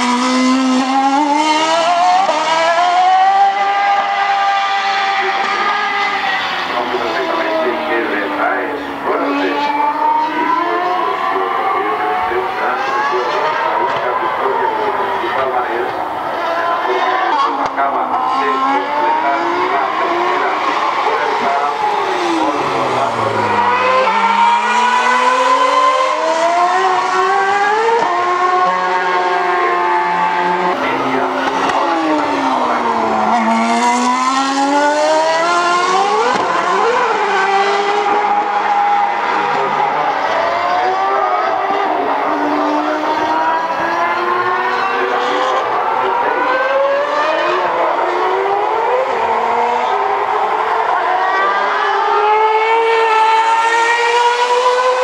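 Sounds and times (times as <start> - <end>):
racing car engine at high revs: 0.0 - 55.0.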